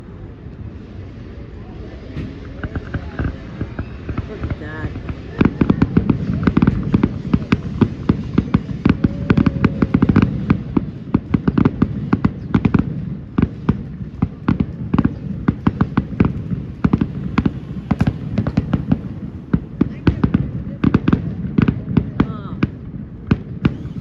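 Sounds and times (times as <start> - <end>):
fireworks bursting: 0.1 - 24.0.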